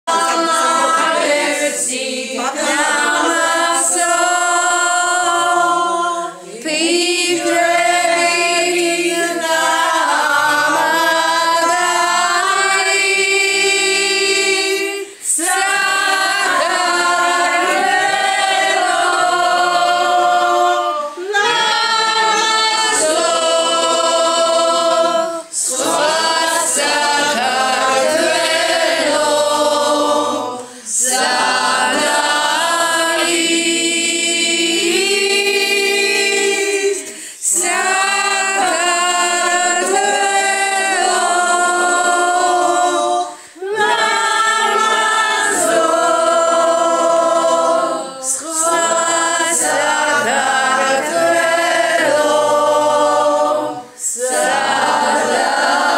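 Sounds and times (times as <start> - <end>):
group singing without instruments: 0.0 - 55.9.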